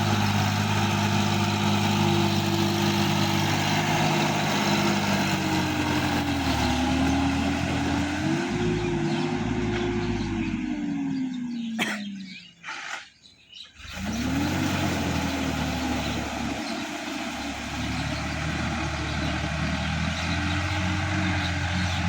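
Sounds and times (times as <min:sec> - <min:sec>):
tractor diesel engine: 0:00.0 - 0:13.0, 0:13.7 - 0:22.0.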